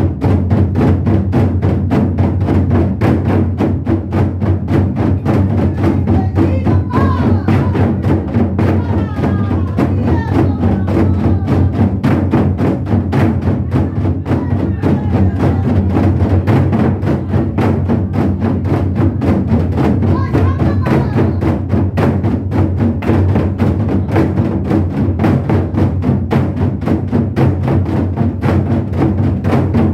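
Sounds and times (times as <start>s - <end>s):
barrel drums struck rapidly: 0.0s - 29.9s.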